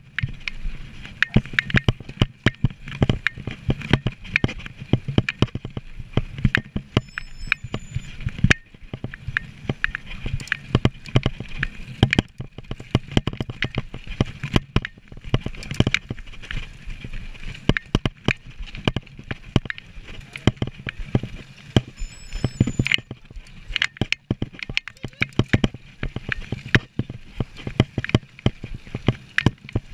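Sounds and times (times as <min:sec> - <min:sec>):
bike clicks and rattles: 0:00.0 - 0:29.9.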